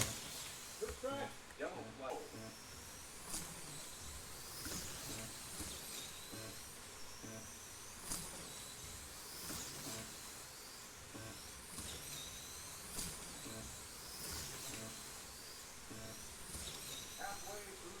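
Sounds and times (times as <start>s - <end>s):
slot car motors whining: 0.0s - 18.0s.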